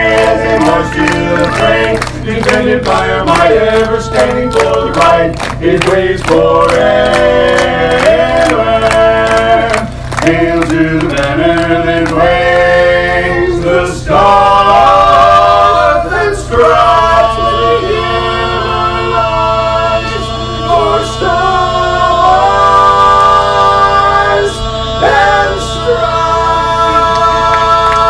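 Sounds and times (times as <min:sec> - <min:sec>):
male quartet singing chords: 0:00.0 - 0:28.0.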